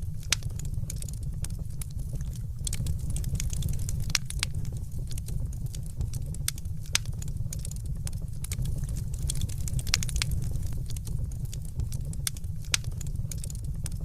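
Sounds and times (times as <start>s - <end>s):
low fire rumble: 0.0s - 14.0s
wood fire crackling: 0.0s - 14.0s.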